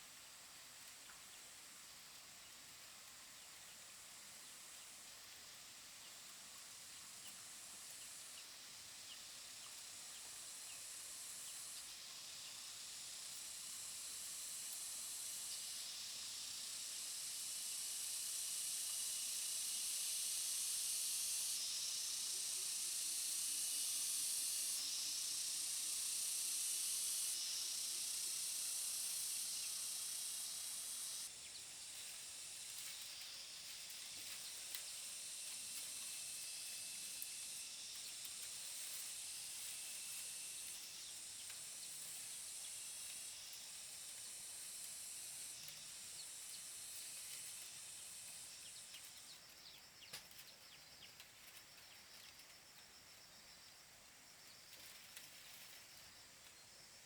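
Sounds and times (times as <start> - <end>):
cicadas chorus: 0.0 - 57.0.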